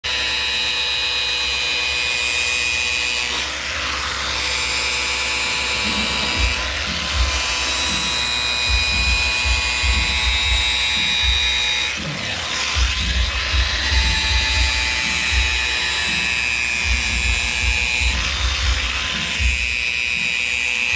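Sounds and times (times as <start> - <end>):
power sander on metal: 0.0 - 20.9
low bumps of sander: 0.2 - 20.9.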